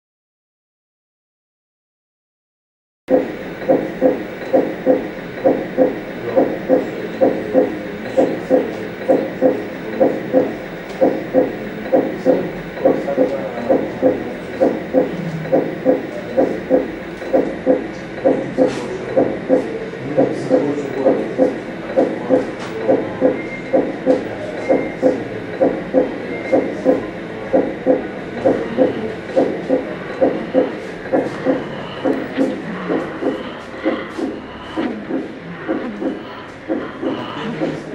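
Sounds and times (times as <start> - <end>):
heartbeat thumps: 3.1 - 37.8.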